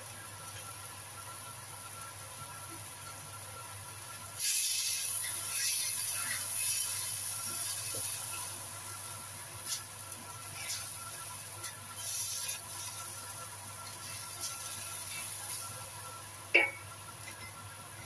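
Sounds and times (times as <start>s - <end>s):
stir-fry sizzling in a wok: 0.0s - 18.0s.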